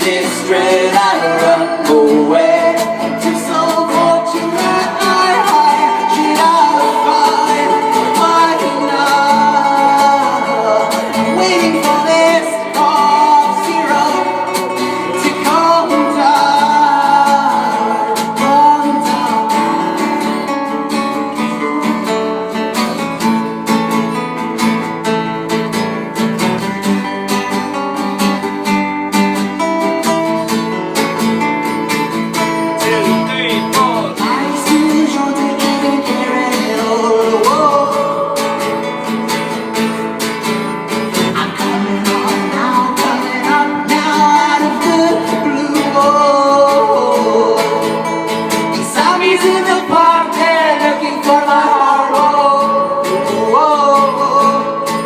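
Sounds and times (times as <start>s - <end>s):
person singing: 0.0s - 23.1s, 30.1s - 55.0s
strummed acoustic guitar: 0.0s - 55.0s.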